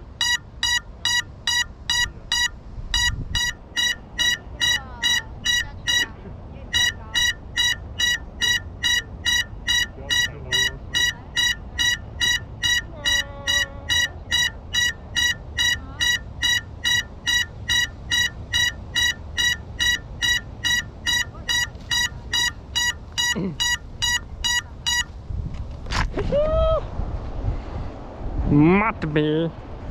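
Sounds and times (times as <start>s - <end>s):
high-pitched buzzer beeping: 0.1s - 6.1s, 6.7s - 25.1s.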